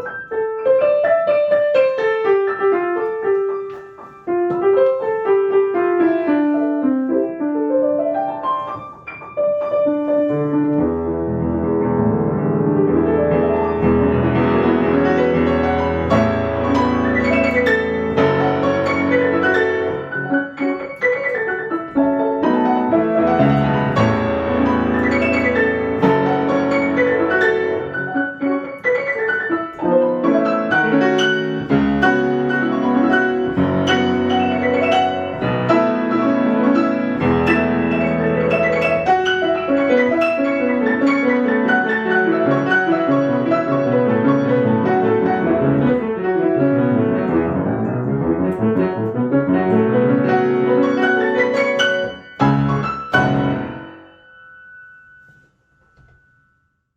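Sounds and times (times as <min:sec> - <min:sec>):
solo piano playing: 0:00.0 - 0:56.9.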